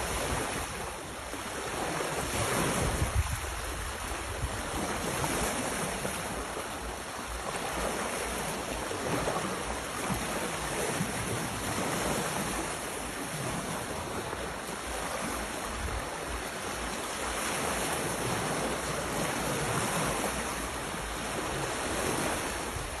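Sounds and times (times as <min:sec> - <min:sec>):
sea surf washing in: 0:00.0 - 0:23.0
wind buffeting microphone: 0:00.0 - 0:23.0.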